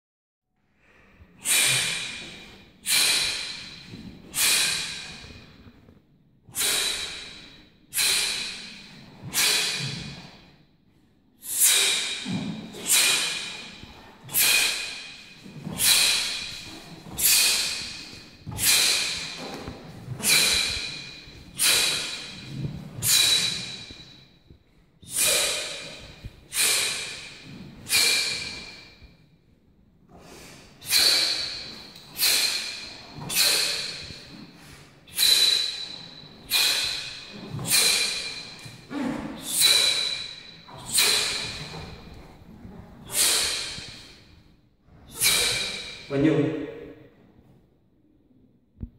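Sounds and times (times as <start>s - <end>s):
man's forceful exhalations: 0.8s - 5.9s, 6.5s - 10.5s, 11.4s - 24.3s, 25.0s - 29.1s, 30.1s - 46.2s.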